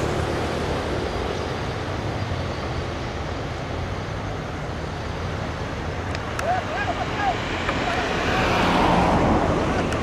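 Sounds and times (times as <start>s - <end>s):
distant road traffic: 0.0s - 10.0s.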